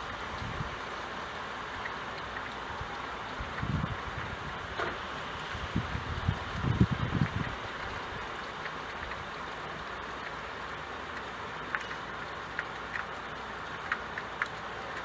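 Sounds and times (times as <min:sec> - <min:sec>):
steady rain falling: 0:00.0 - 0:15.0
sharp drip ticks: 0:00.1 - 0:15.0.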